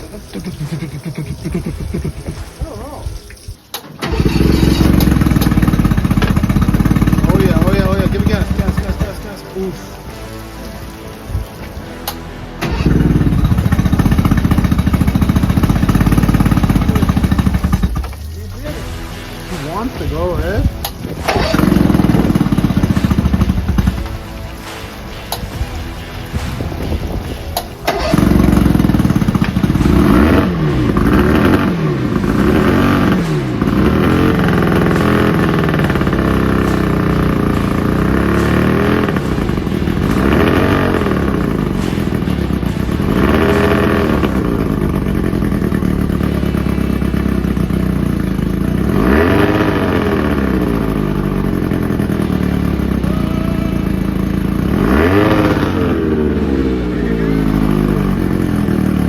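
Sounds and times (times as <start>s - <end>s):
boat engine revving: 4.0s - 59.0s.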